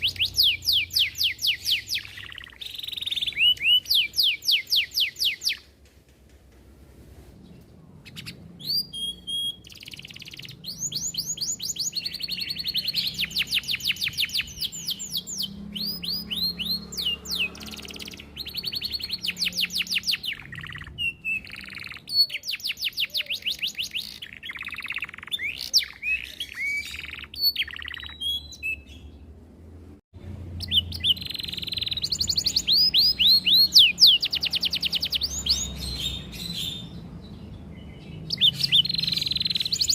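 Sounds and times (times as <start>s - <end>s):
canary singing fast trills: 0.0s - 5.7s, 8.0s - 29.4s, 30.5s - 39.9s.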